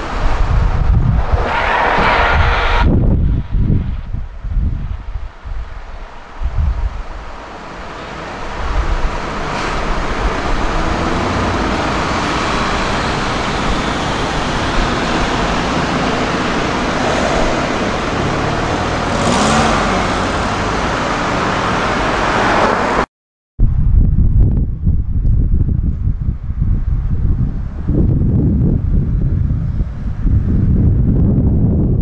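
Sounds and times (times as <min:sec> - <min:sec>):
passing cars and buses: 0:00.0 - 0:23.1, 0:24.5 - 0:32.0.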